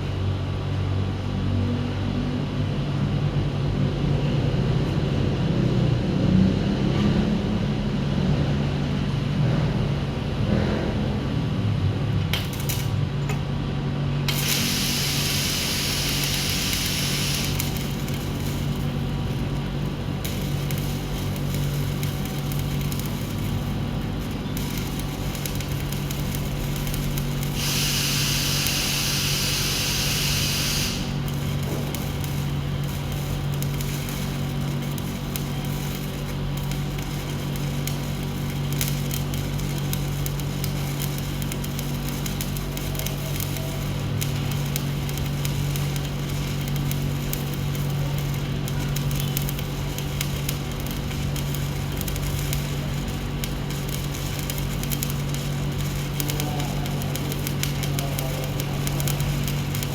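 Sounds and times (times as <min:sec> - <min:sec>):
low machine hum: 0:08.7 - 0:59.9
welding arc hissing and crackling: 0:11.4 - 0:59.9.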